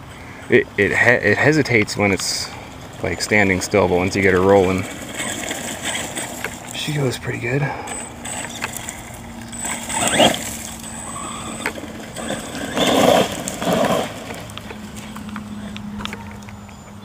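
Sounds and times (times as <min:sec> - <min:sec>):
electric rc truck accelerating: 0:02.2 - 0:07.2, 0:07.8 - 0:17.0.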